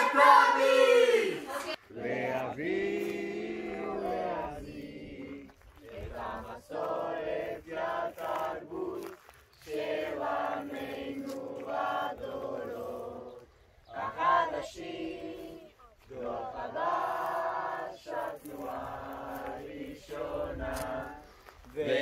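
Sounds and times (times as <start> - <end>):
group chanting and singing: 0.0 - 22.0.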